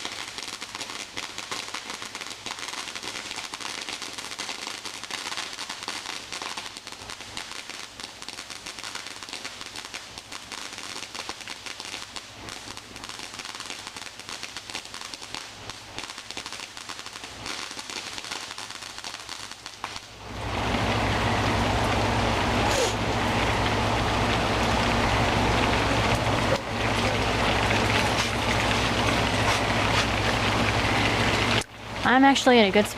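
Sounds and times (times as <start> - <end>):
firework crackling: 0.0 - 32.9
rain falling: 0.0 - 32.9.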